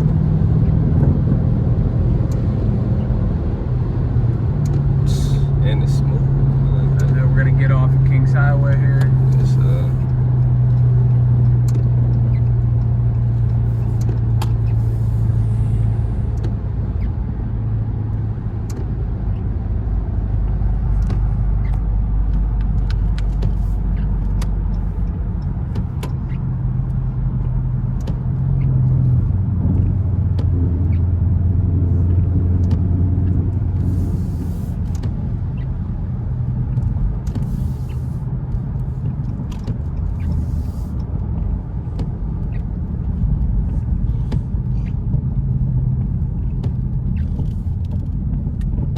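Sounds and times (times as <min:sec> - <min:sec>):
car engine droning: 0:00.0 - 0:48.9
road noise: 0:00.0 - 0:48.9.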